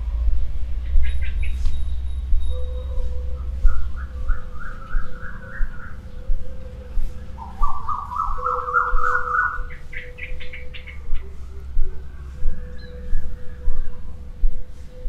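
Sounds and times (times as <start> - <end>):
bird calling in rising notes: 0.0 - 15.0
low steady rumble: 0.0 - 15.0.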